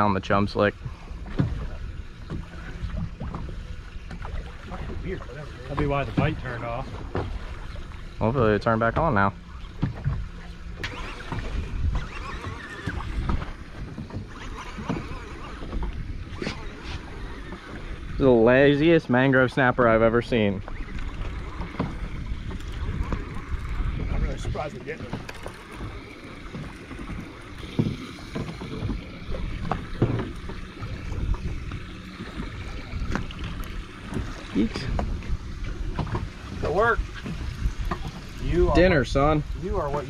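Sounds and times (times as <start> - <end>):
water sloshing against boat hull: 0.0 - 40.0
wind buffeting microphone: 0.0 - 40.0
wavering squeaks and creaks: 0.8 - 40.0.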